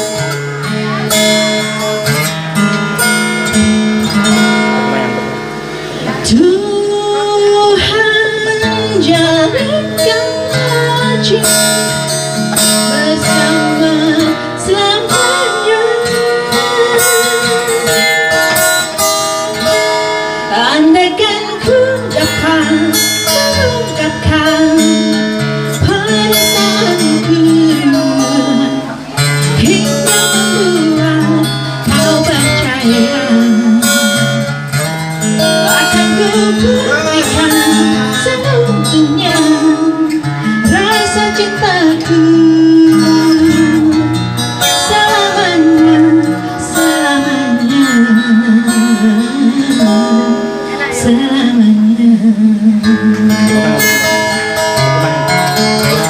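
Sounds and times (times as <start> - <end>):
strummed acoustic guitar: 0.0 - 56.0
woman singing into microphone: 3.4 - 34.6, 35.3 - 55.7.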